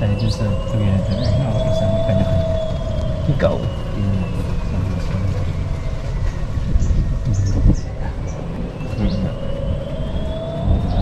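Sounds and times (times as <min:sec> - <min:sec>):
vehicle engine rumble and whine: 0:00.0 - 0:11.0.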